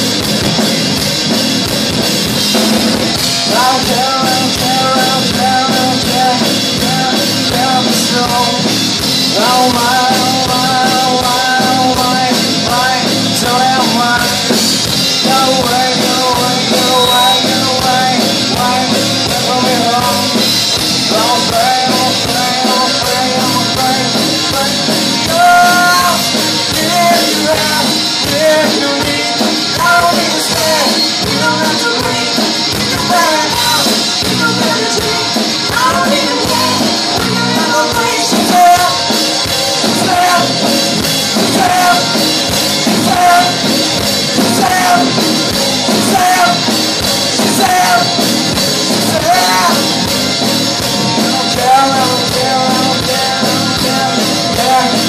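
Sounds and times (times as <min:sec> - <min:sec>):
drum kit: 0:00.0 - 0:55.0
electric guitars: 0:00.0 - 0:55.0
person singing lead vocal: 0:02.8 - 0:55.0.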